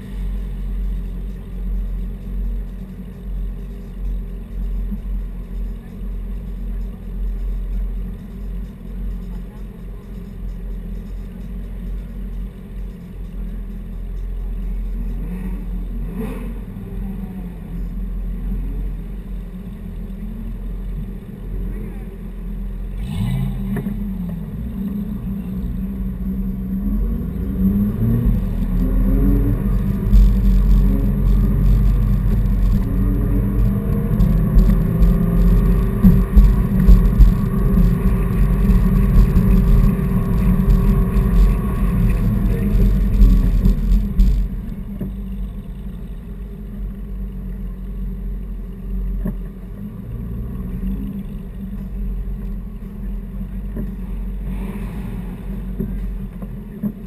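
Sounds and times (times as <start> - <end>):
sports car engine revving: 0.0 - 57.0.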